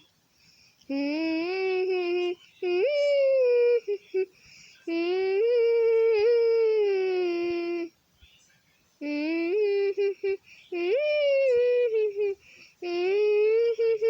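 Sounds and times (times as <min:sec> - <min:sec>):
high-pitched voice humming: 0:00.9 - 0:08.0, 0:09.0 - 0:14.0.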